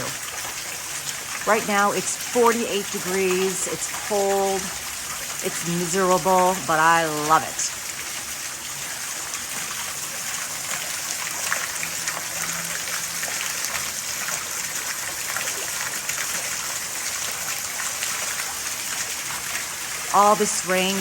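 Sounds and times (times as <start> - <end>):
heavy rain pouring: 0.0 - 21.0
running and splashing water: 0.0 - 21.0.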